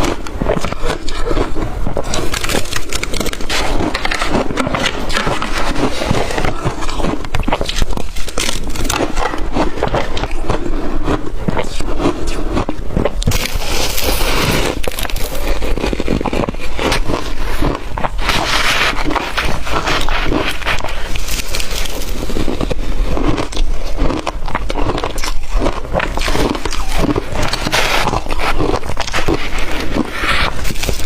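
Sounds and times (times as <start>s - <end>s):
chewing crushed ice: 0.0s - 31.0s.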